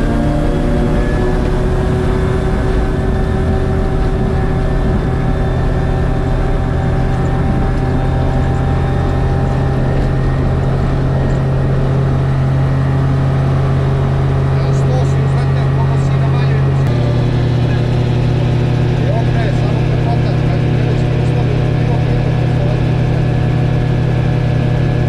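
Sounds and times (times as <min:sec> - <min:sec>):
aircraft engine and propeller: 0:00.0 - 0:25.0.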